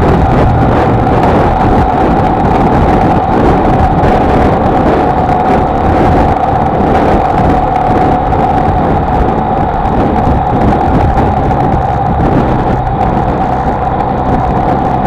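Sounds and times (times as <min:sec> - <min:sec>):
motorcycle engine droning: 0:00.0 - 0:15.0
road rumble: 0:00.0 - 0:15.0
wind: 0:00.0 - 0:15.0.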